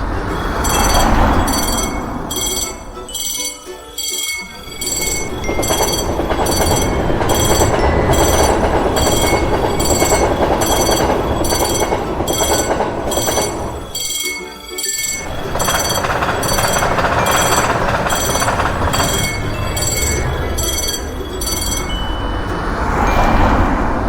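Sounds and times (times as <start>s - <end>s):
level crossing warning bell ringing: 0.0s - 24.0s
train rumbling past: 0.0s - 24.0s.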